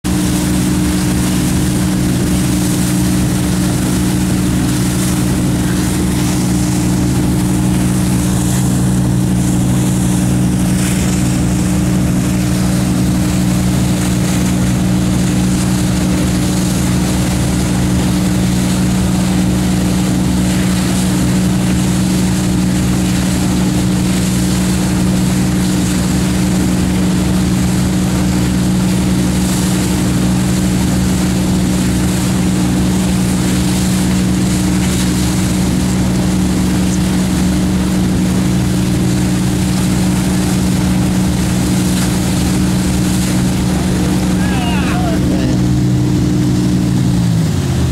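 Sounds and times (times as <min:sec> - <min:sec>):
boat engine humming: 0:00.0 - 0:47.9
wake water rushing and spraying: 0:00.0 - 0:47.9.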